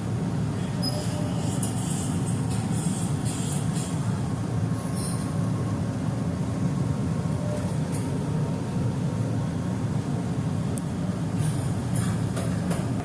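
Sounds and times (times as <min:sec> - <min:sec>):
transit vehicle rumbling: 0:00.0 - 0:13.0.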